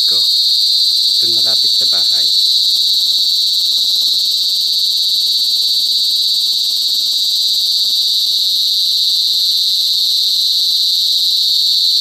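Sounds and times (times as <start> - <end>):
cicada buzzing: 0.0 - 12.0.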